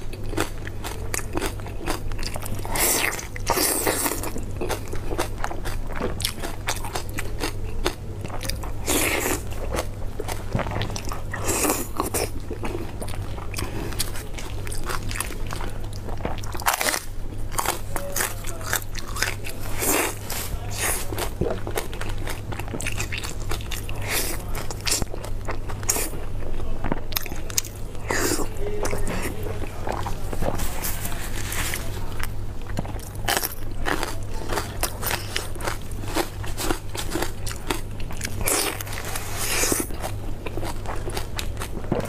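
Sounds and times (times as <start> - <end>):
person chewing: 0.0 - 42.0.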